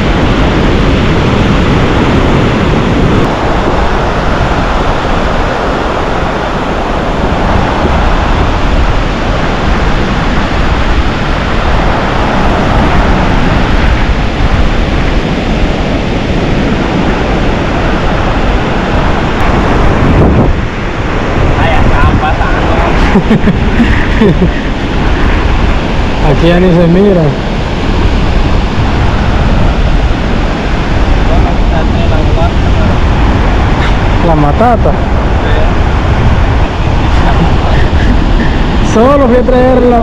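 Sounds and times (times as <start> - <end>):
surf breaking on beach: 0.0 - 40.0
wind buffeting microphone: 0.0 - 40.0.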